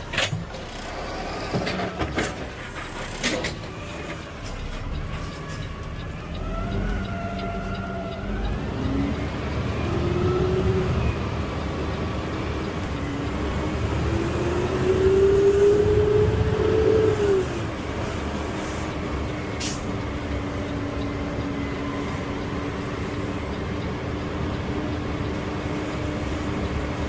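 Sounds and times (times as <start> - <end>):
garbage truck engine pulling away: 0.0 - 27.0.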